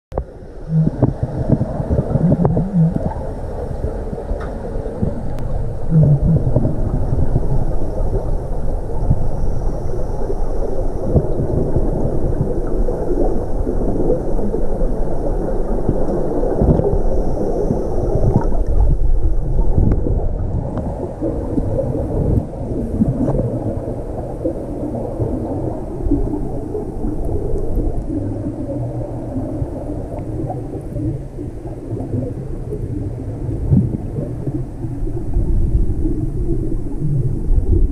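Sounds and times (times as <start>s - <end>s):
underwater rumble and gurgling: 0.1s - 37.9s.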